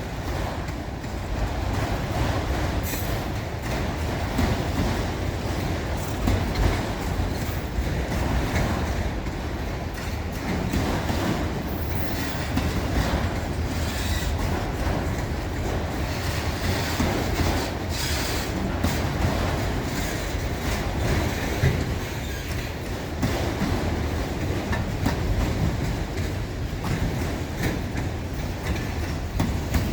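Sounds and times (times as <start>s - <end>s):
train wheels rumbling on rails: 0.0s - 29.9s
wheels clicking over rail joints: 0.0s - 29.9s.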